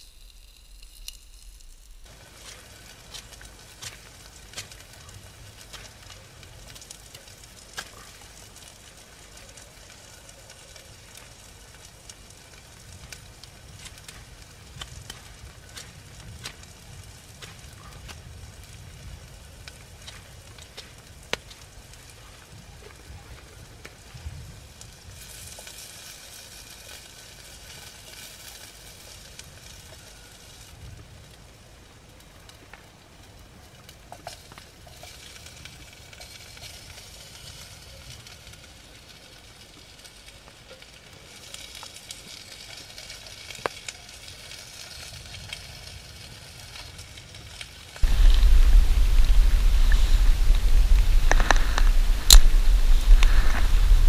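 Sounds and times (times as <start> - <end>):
food sizzling in a pot: 0.0 - 18.2, 18.8 - 31.6, 33.4 - 54.0
wood fire crackling: 0.0 - 54.0.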